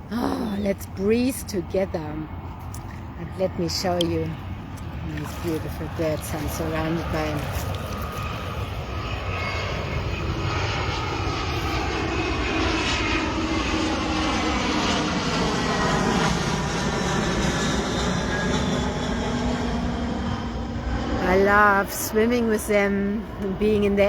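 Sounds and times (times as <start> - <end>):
engine drone: 0.0 - 24.0.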